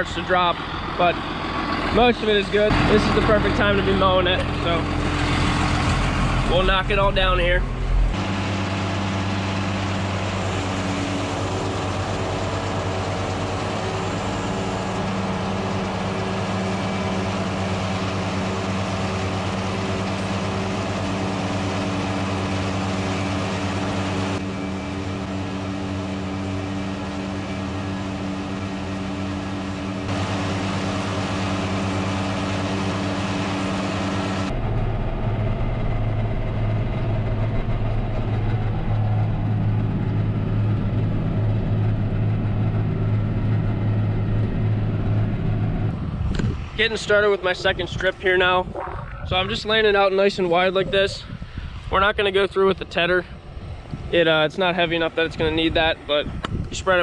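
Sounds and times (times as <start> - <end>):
tractor engine under load: 0.0 - 50.3.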